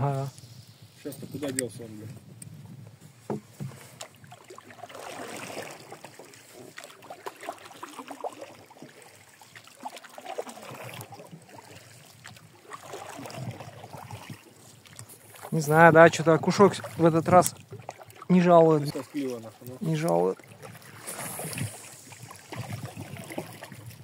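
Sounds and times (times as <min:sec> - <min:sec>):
water swishing around boat: 0:00.0 - 0:24.0.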